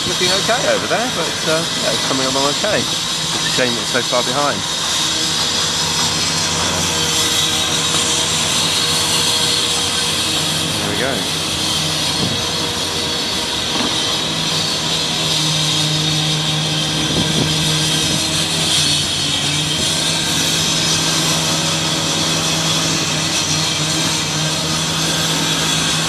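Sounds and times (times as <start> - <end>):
machinery drone: 0.0 - 26.0.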